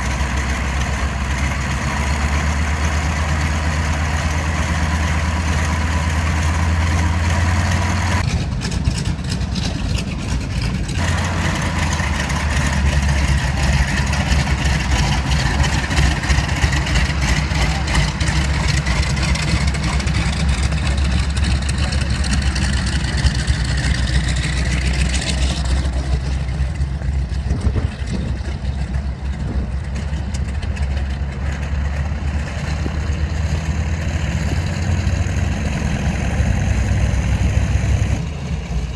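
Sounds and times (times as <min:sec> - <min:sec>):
aircraft piston engines droning: 0:00.0 - 0:38.9.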